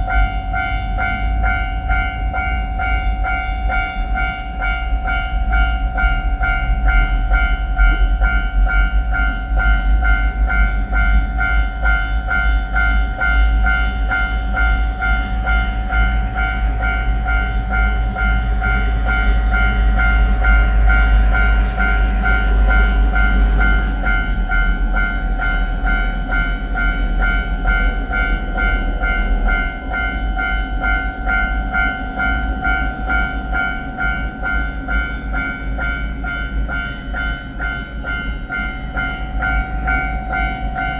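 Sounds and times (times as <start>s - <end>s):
level-crossing warning bell: 0.0s - 40.9s.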